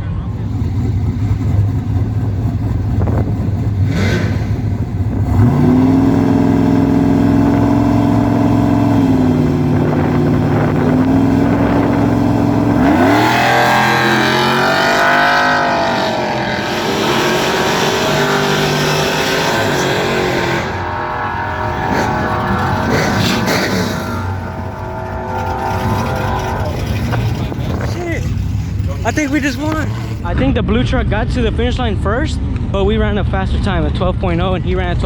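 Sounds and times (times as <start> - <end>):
truck engines revving at full throttle: 0.0 - 35.0.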